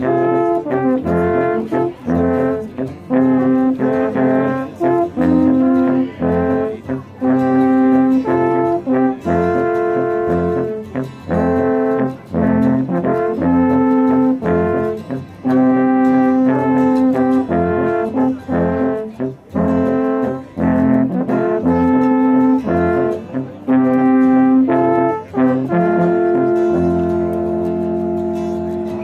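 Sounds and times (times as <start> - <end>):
alphorns playing slow melody: 0.0 - 29.0.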